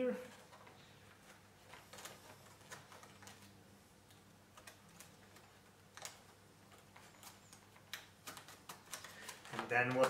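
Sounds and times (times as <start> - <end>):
small clicks and scratches: 0.3 - 10.0.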